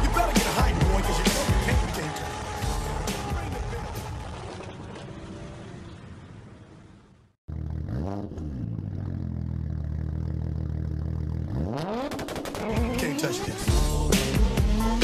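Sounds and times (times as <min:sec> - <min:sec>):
car engine revving and idling: 0:00.0 - 0:06.2, 0:07.5 - 0:15.0
road noise: 0:00.0 - 0:14.8.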